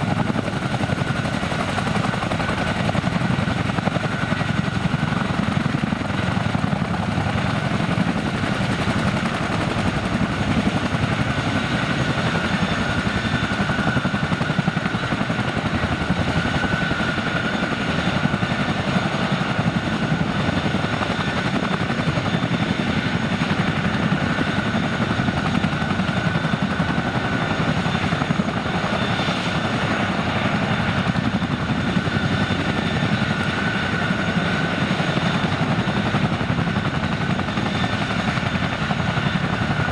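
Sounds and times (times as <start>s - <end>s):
helicopter rotor chop: 0.0s - 39.9s.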